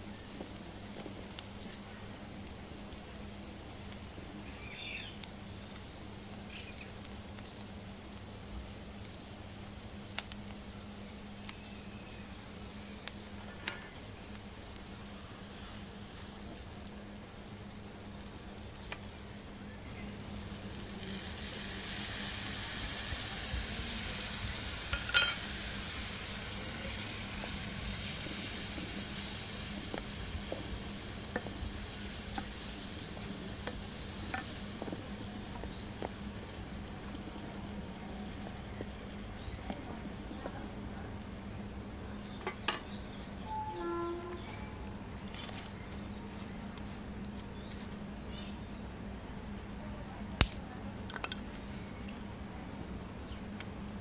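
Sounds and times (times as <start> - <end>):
onions and egg sizzling: 0.0 - 48.2.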